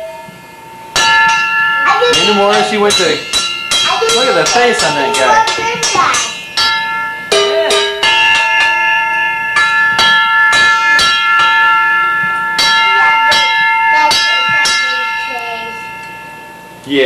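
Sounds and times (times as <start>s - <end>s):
spoon clanging metal bowl: 1.0s - 15.4s.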